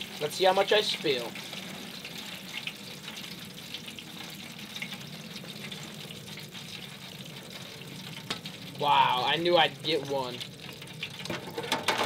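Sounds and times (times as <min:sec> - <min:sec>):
fish sizzling in hot oil: 0:00.0 - 0:12.0
oil popping: 0:00.0 - 0:12.0.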